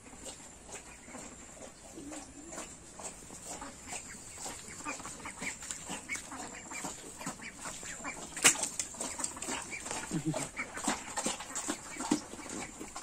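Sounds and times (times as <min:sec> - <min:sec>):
poultry calling: 0:00.7 - 0:13.0.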